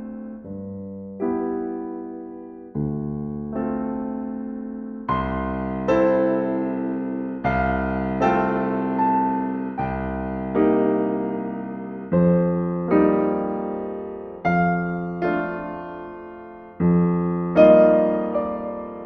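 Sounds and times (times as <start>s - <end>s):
gentle classical piano: 0.0s - 19.0s.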